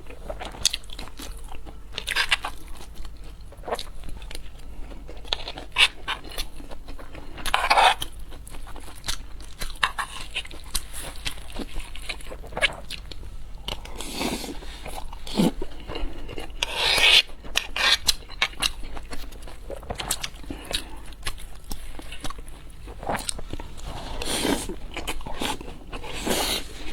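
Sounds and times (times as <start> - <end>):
crunchy bites and chewing: 0.0 - 26.9.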